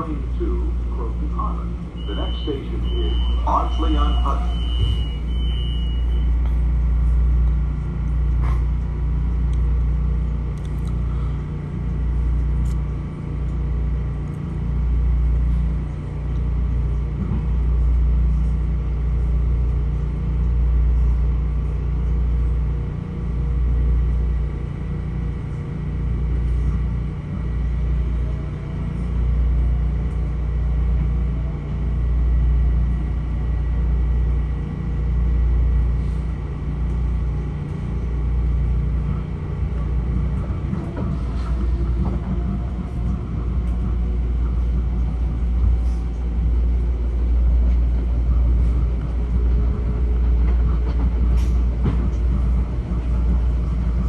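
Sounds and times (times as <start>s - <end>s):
railcar rumble: 0.0s - 54.0s.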